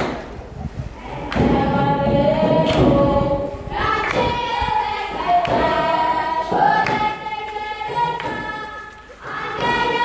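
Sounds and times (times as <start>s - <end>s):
choir singing long notes: 1.0s - 10.0s.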